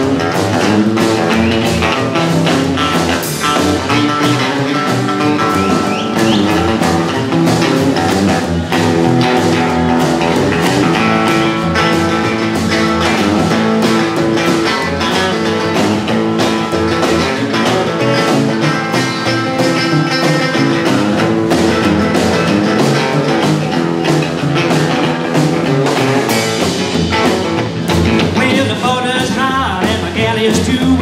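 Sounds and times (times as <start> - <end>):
electric guitar: 0.0 - 31.0
rock and roll band playing: 0.0 - 31.0.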